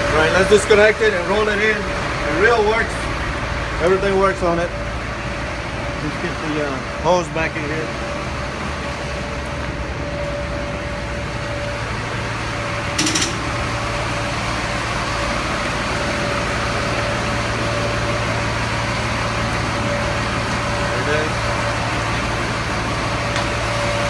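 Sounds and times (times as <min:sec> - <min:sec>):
hose reel whine: 0:00.0 - 0:24.0
truck engine humming: 0:00.0 - 0:24.0.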